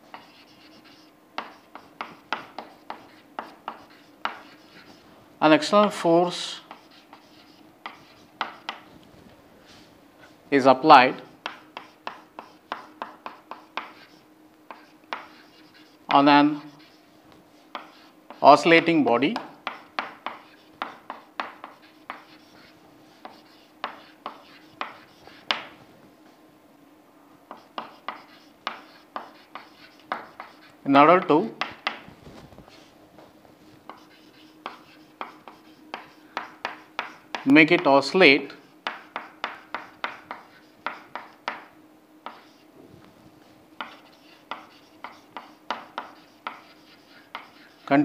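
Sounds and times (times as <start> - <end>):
faint steady hum: 0.0 - 48.0
chalk tapping on chalkboard: 0.1 - 5.0, 5.8 - 8.9, 11.4 - 17.0, 17.7 - 25.8, 27.5 - 32.1, 33.8 - 37.9, 38.5 - 42.6, 43.8 - 47.9.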